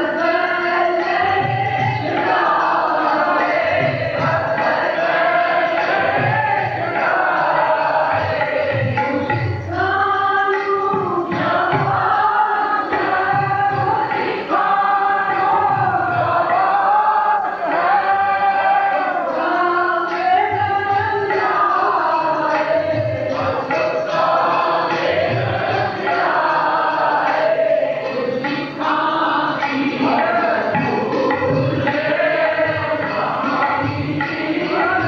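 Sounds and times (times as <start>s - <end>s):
harmonium: 0.0s - 35.0s
tabla drumming: 0.0s - 35.0s
voices singing devotional song: 0.0s - 35.0s.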